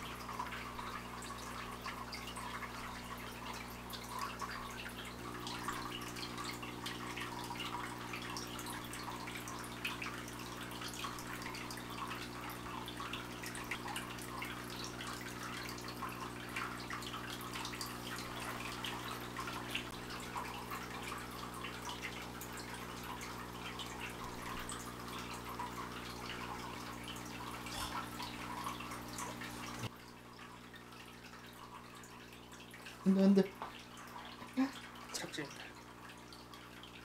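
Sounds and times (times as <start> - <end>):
water dripping and trickling: 0.0 - 37.0.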